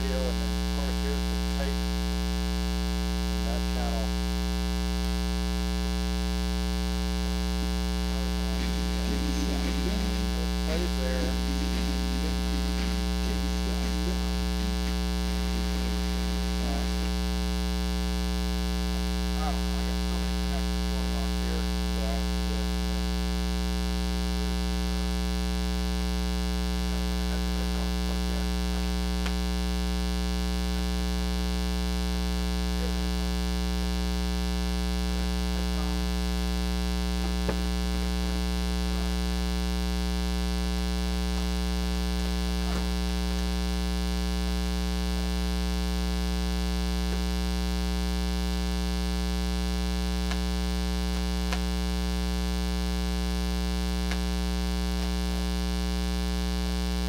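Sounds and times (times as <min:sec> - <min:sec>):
mains hum and buzz: 0:00.0 - 0:57.0.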